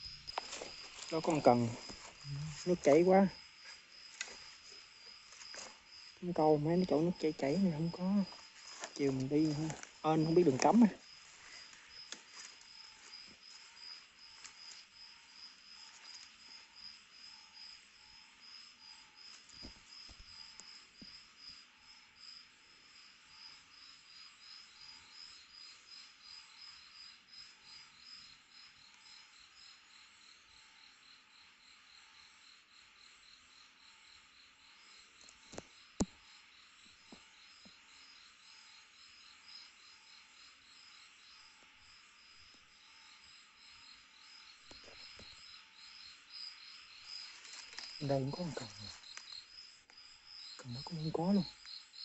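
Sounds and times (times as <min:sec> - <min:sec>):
night insects chirping: 0:00.0 - 0:52.0.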